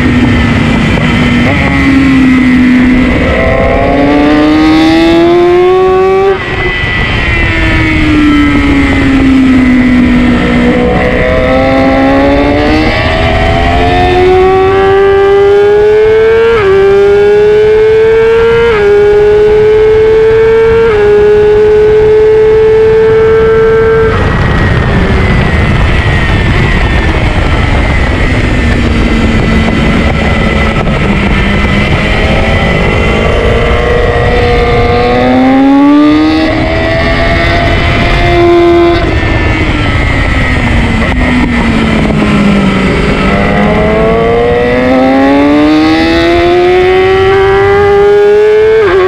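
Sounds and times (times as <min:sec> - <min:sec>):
motorcycle engine revving: 0:00.0 - 0:49.0
wind rush: 0:00.0 - 0:49.0.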